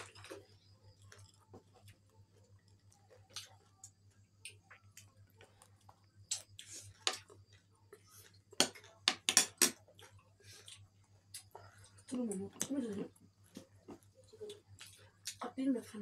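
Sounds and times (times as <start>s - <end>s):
food crunching: 0.0s - 15.5s.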